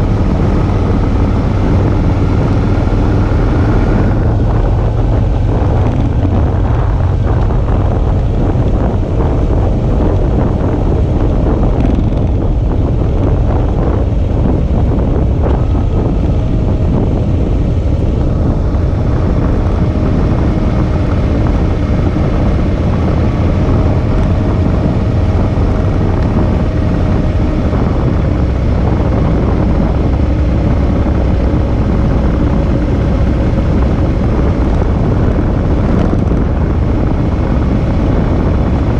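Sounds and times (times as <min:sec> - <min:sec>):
motorcycle engine running: 0:00.0 - 0:38.9
wind rush over microphone: 0:00.0 - 0:38.9.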